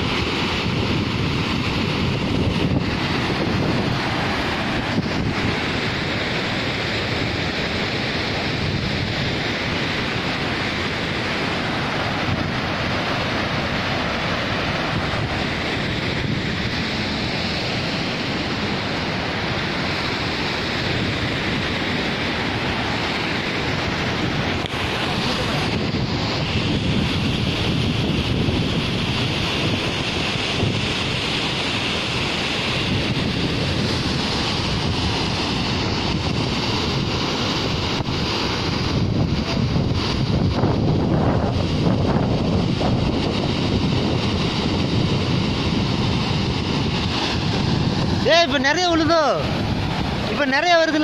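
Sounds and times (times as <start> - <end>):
waterfall and river rapids rushing: 0.0 - 51.0
wind buffeting microphone: 0.0 - 51.0.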